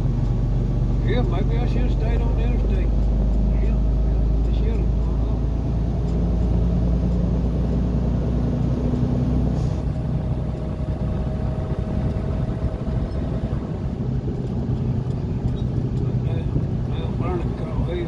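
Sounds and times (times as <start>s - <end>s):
car engine hum: 0.0s - 18.0s
road noise rumble: 0.0s - 18.0s.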